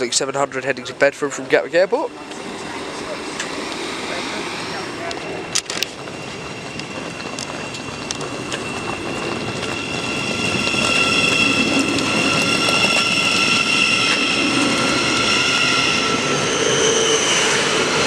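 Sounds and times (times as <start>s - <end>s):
train wheels rolling: 0.0s - 18.0s
electric motors whining: 0.2s - 18.0s.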